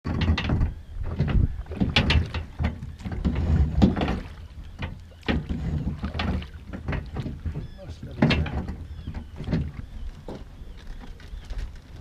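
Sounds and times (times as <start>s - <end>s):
oars knocking in rowlocks: 0.0s - 12.0s
wind rumble on microphone: 0.0s - 12.0s.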